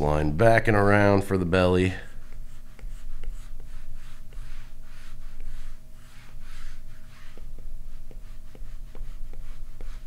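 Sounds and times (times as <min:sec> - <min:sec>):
stylus scratching on tablet screen: 0:01.6 - 0:10.0.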